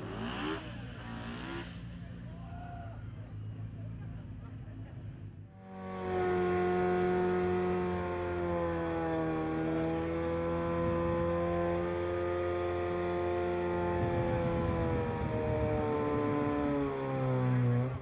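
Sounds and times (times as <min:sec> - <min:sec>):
car engine at high revs: 0:00.0 - 0:02.2, 0:05.5 - 0:18.0.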